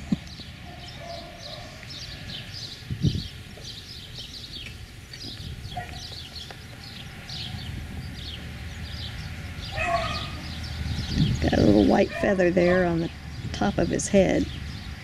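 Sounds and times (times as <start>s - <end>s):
small birds chirping: 0.0s - 15.0s
low steady rumble: 1.9s - 15.0s.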